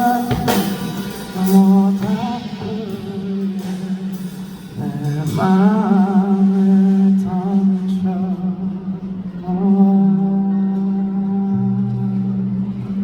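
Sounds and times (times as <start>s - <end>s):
man singing long notes with vibrato: 0.0s - 13.0s
soft accompaniment: 0.0s - 13.0s.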